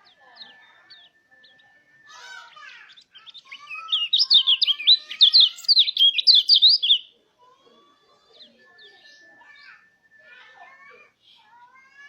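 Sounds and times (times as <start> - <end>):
bird chirping high notes: 0.0 - 11.7.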